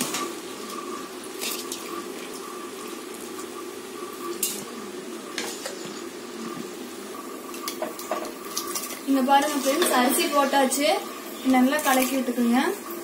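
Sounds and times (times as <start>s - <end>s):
broth bubbling in a pot: 0.0s - 13.0s.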